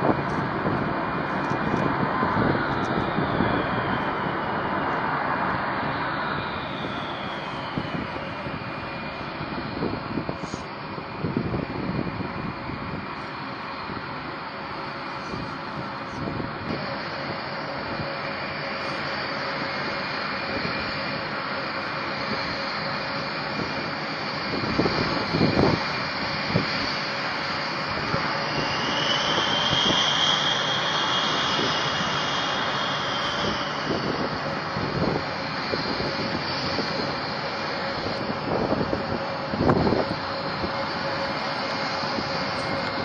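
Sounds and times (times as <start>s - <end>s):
aircraft engines running: 0.0s - 43.0s
high engine whine: 0.0s - 43.0s.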